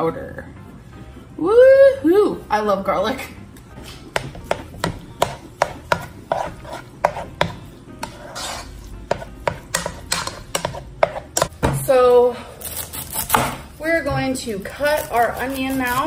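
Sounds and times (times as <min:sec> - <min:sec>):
utensil scraping in cooking pot: 0:02.1 - 0:11.6, 0:12.6 - 0:16.0.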